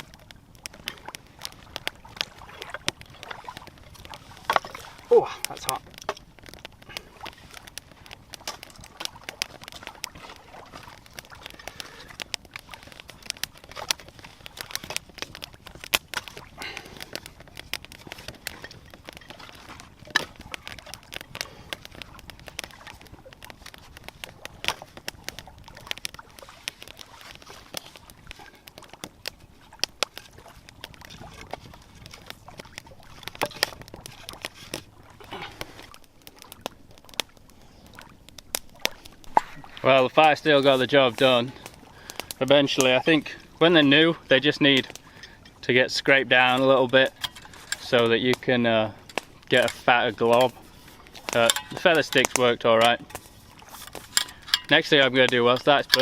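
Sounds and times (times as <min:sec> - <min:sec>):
campfire crackling and snapping: 0:00.0 - 0:56.0
low hiss of fire: 0:00.0 - 0:56.0.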